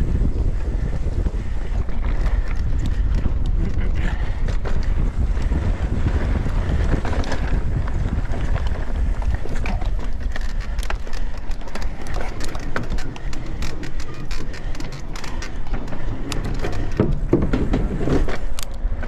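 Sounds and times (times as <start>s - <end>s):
bike and stones clicking and rattling: 0.0s - 19.0s
tyres rumbling on dirt trail: 0.0s - 19.0s
wind buffeting microphone: 0.0s - 19.0s.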